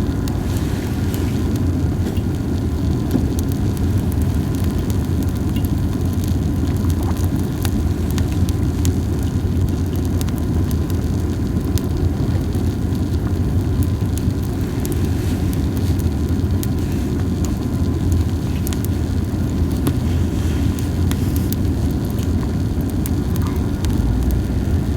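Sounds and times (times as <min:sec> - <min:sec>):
campfire crackling: 0:00.0 - 0:24.9.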